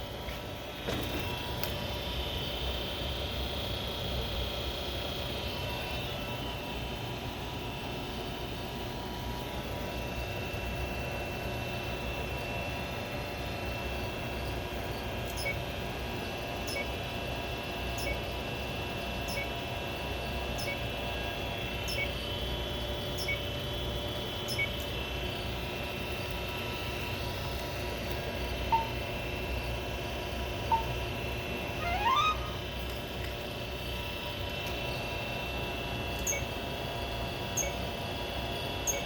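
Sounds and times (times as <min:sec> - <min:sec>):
machine humming steady tones: 0:00.0 - 0:39.0.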